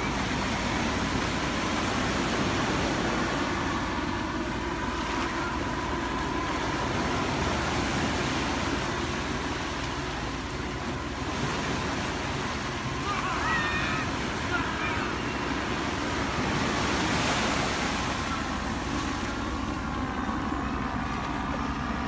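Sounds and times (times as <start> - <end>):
surf breaking on sandy shore: 0.0 - 22.0.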